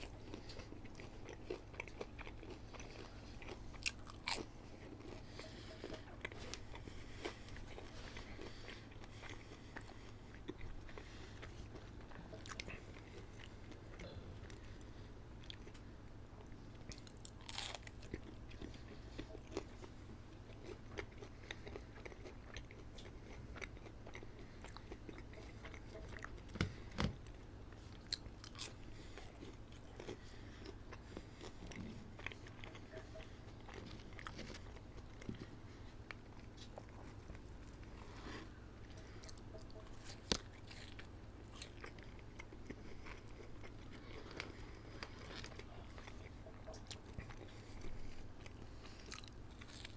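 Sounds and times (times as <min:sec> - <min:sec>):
chewing and biting food: 0:00.0 - 0:49.9
steady low hum: 0:00.0 - 0:49.9.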